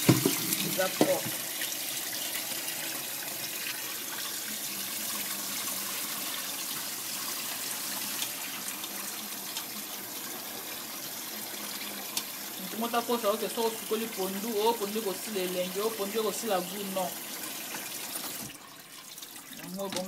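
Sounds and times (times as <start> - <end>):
tap water running into a pot: 0.0 - 20.0.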